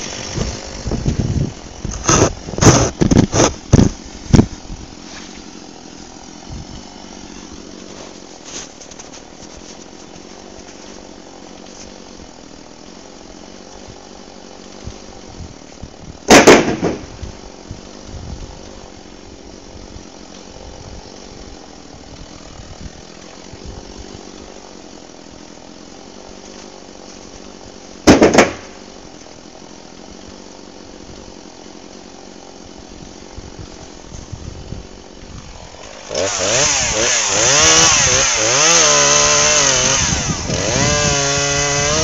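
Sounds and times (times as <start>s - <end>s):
chainsaw idling: 0.0s - 42.0s
chainsaw revving: 0.0s - 42.0s.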